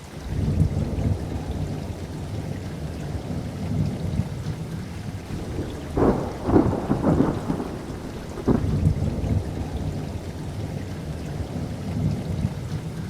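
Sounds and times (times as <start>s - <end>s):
rain falling: 0.0s - 13.0s
thunder rumbling and cracking: 0.2s - 13.0s.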